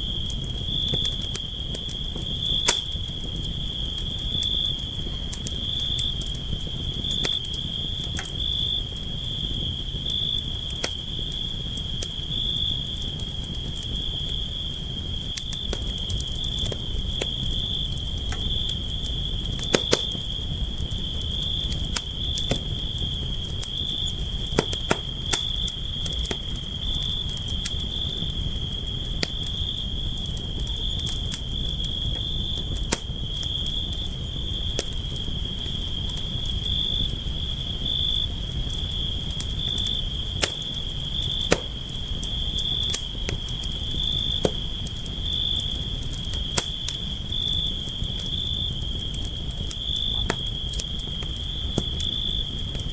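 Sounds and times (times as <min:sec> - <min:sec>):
campfire crackling and popping: 0:00.0 - 0:52.9
crickets chirring: 0:00.0 - 0:52.9.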